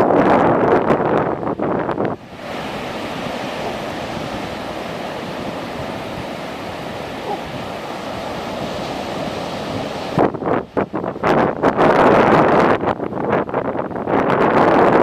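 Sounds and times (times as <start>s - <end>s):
sea surf breaking on shore: 0.0s - 15.0s.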